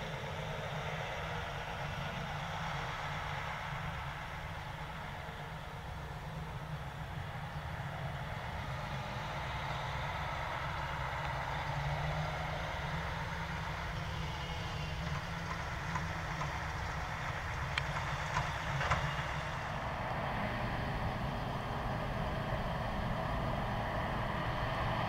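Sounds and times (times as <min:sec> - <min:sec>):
harvester engine rumbling: 0:00.0 - 0:25.0.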